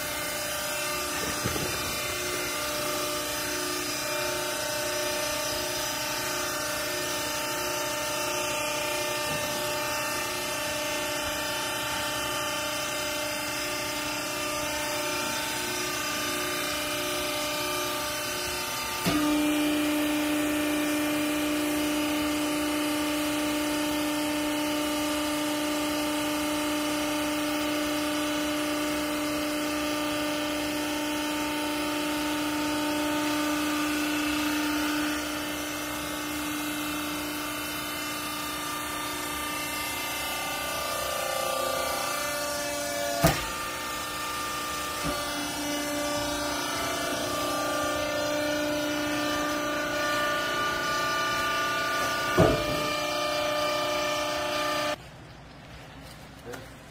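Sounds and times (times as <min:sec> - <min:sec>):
hydraulic machine hum: 0:00.0 - 0:55.0.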